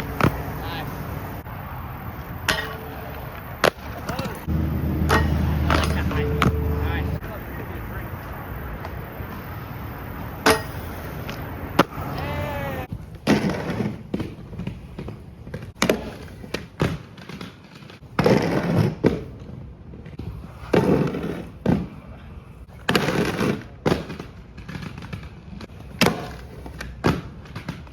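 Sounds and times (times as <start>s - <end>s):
skateboard clacking on ground: 0.0s - 27.9s
skateboard wheels rolling: 0.0s - 27.9s.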